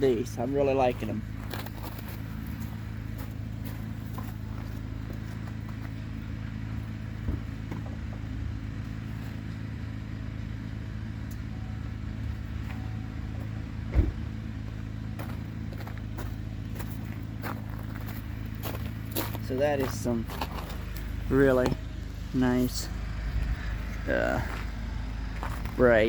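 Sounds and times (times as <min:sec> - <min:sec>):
pickup truck diesel engine idling: 0:00.0 - 0:26.0.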